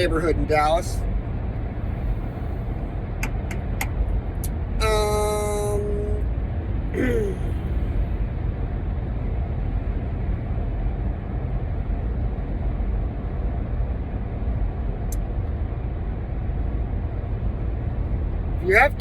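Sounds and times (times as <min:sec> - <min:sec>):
low vehicle rumble: 0:00.9 - 0:19.0.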